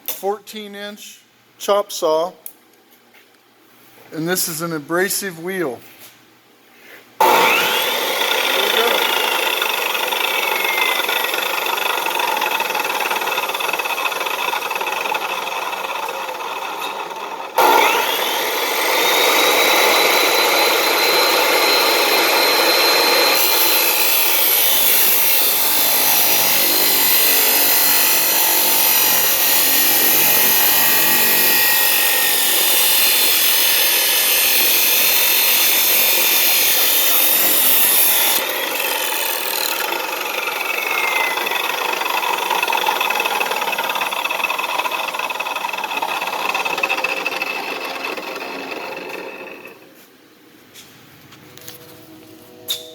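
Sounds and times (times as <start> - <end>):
chop saw motor whining: 7.2 - 49.9.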